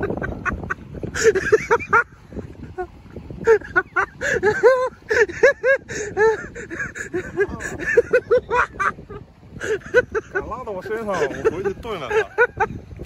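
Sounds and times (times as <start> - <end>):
man laughing heartily: 0.0 - 12.9.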